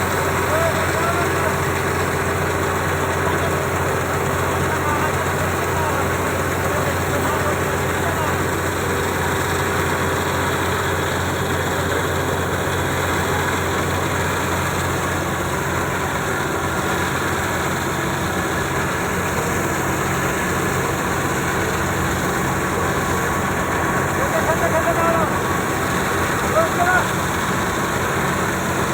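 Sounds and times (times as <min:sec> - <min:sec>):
farm machinery engine running: 0:00.0 - 0:28.9.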